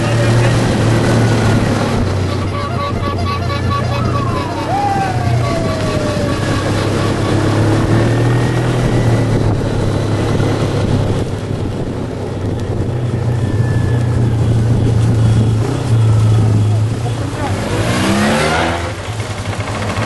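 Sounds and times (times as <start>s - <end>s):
road and wind noise: 0.0s - 20.0s
scooter engines droning: 0.0s - 20.0s.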